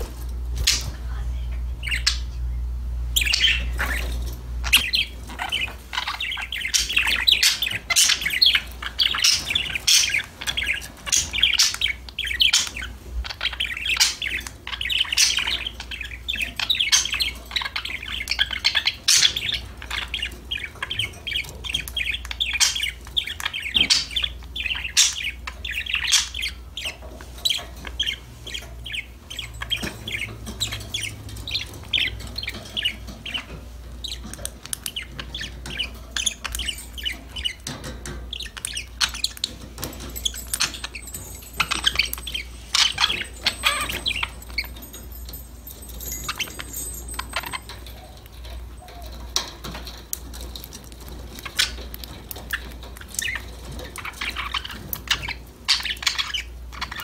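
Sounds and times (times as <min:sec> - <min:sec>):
budgerigars chattering and warbling: 0:00.0 - 0:01.0, 0:01.6 - 0:02.5, 0:03.1 - 0:57.0.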